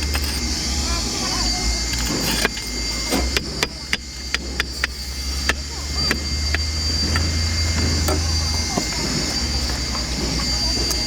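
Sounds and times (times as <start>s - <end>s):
low machine drone: 0.0s - 11.0s
thin high whine: 0.0s - 11.0s.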